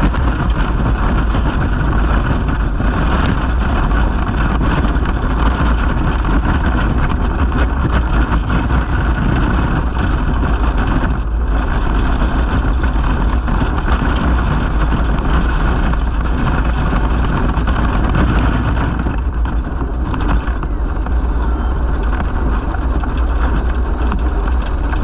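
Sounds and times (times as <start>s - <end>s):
tyres rolling on asphalt: 0.0s - 25.0s
wind rumble: 0.0s - 25.0s.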